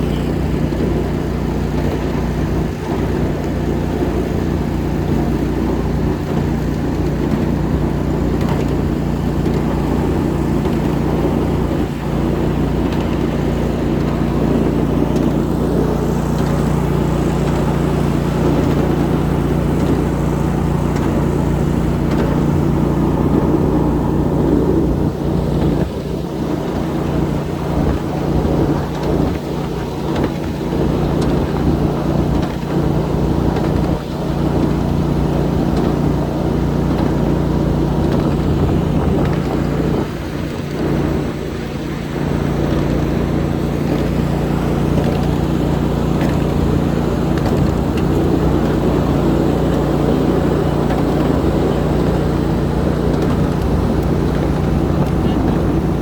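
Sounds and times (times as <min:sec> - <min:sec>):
miniature train locomotive hum: 0:00.0 - 0:56.0
train rumble on track: 0:00.0 - 0:56.0
wheels clicking and rattling: 0:00.0 - 0:56.0.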